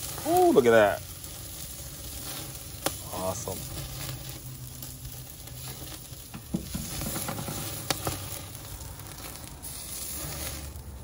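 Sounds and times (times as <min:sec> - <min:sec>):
steak sizzling on grill: 0:00.0 - 0:11.0.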